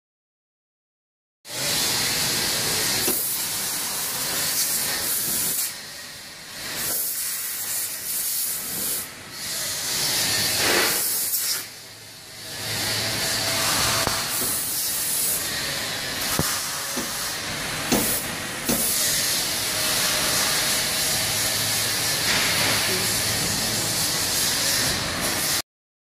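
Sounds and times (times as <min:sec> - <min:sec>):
conveyor running with hissing rush: 0:01.5 - 0:25.6.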